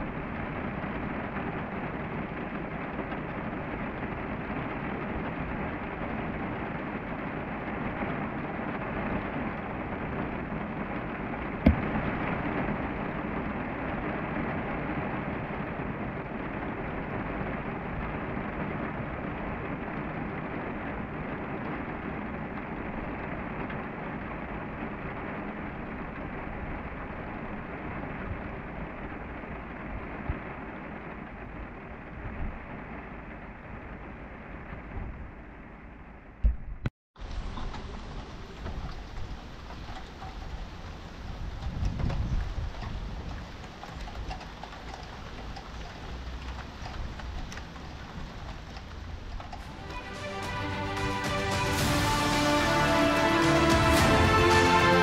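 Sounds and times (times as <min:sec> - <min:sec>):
steady rain falling: 0:00.0 - 0:36.5, 0:37.2 - 0:55.0
thunder crack and rumble: 0:00.0 - 0:50.0.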